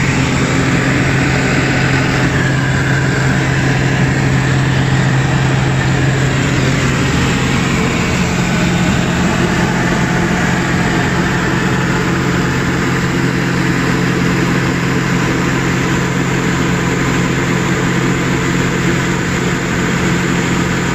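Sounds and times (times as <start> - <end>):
aircraft engine and propeller drone: 0.0 - 20.9.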